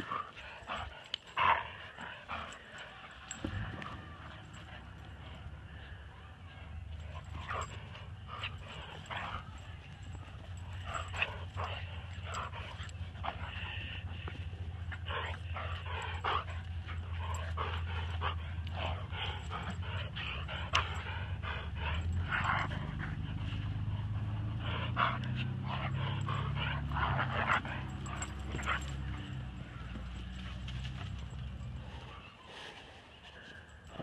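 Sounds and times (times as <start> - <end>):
dogs panting: 0.0 - 34.0
dogs vocalizing while play-fighting: 0.0 - 34.0.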